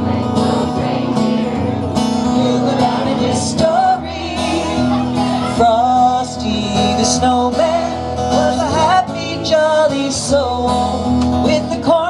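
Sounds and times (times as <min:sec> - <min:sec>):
acoustic guitar: 0:00.0 - 0:12.0
person singing: 0:00.0 - 0:12.0.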